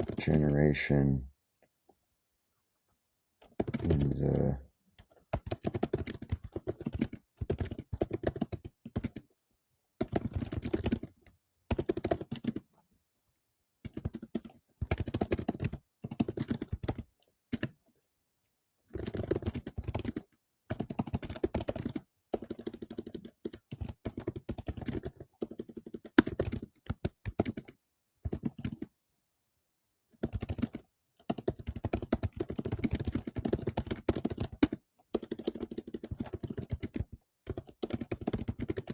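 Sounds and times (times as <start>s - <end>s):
typing on computer keyboard: 0.0s - 0.7s, 3.4s - 9.3s, 10.0s - 12.8s, 13.8s - 17.9s, 18.9s - 29.0s, 30.2s - 38.9s.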